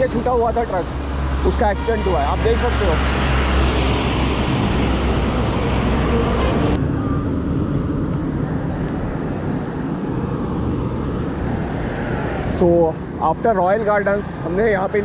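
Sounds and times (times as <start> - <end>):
highway traffic: 0.0 - 15.0.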